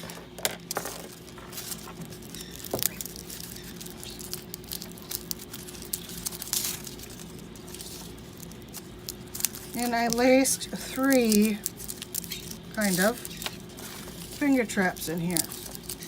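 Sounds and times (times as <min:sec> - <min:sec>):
faint steady hum: 0:00.0 - 0:16.0
hands rustling craft materials: 0:00.0 - 0:16.0.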